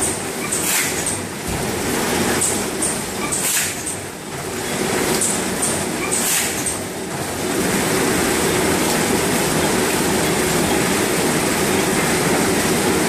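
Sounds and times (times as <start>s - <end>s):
packing machine rattle and hum: 0.0s - 13.0s.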